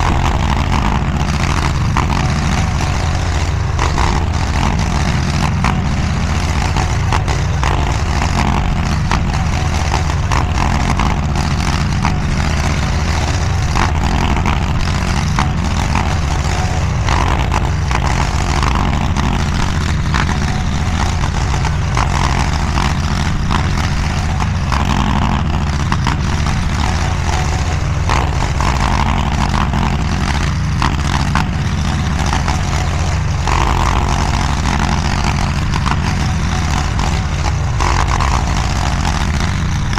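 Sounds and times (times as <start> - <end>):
mini skid steer engine running: 0.0 - 39.9.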